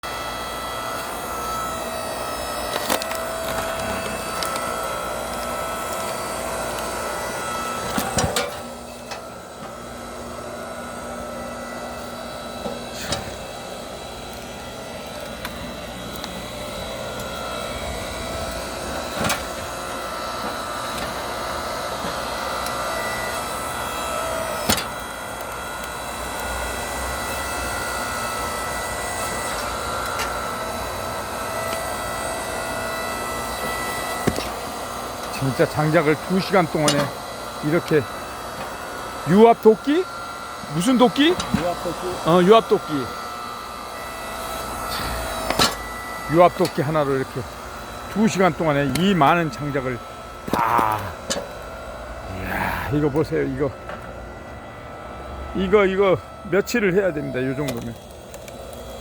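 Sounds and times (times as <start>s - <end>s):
hydraulic log splitter humming: 0.0s - 59.0s.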